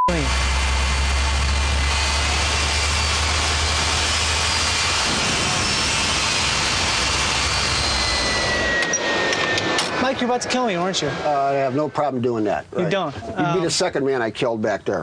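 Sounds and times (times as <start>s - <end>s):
jet engine running: 0.1s - 12.5s.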